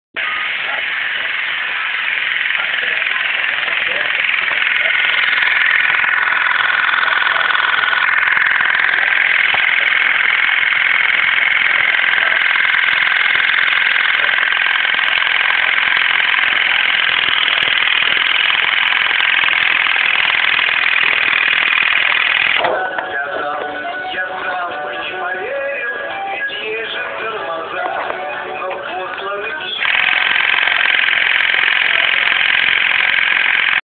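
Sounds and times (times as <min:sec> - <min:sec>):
headlight motor knocking and buzzing: 0:00.2 - 0:23.7, 0:29.8 - 0:33.8.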